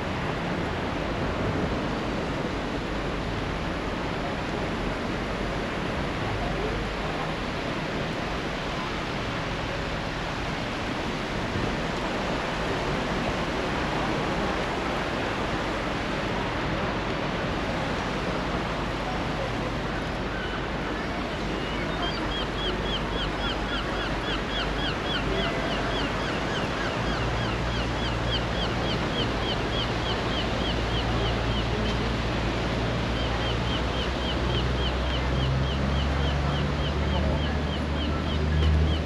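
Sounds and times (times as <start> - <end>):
sea surf rushing: 0.0 - 39.0
wind: 0.0 - 39.0.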